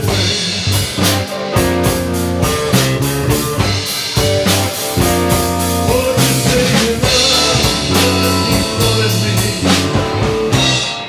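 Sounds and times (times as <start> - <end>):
drum kit beat: 0.0 - 11.0
electric guitars: 0.0 - 11.0
live blues band playing: 0.0 - 11.0.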